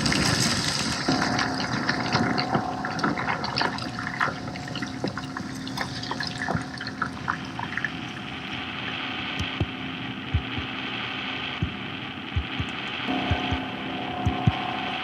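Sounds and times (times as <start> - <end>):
faint steady hum: 1.1 - 15.0.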